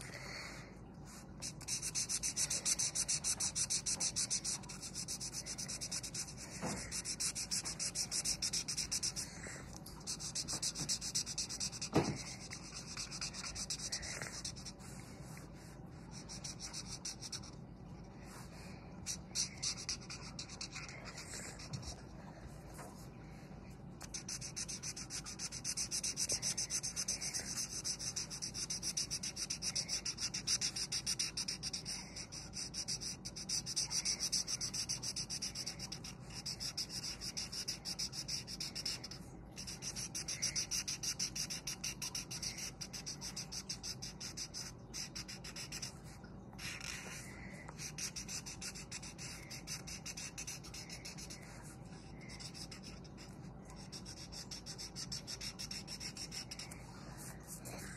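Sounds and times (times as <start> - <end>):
marker scratching on paper: 1.4 - 17.6, 19.0 - 22.0, 24.0 - 46.0, 46.6 - 57.9.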